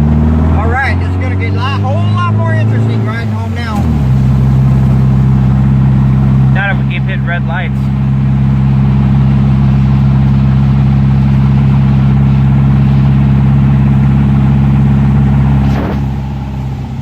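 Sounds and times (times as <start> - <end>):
car engine droning inside cabin: 0.0 - 17.0.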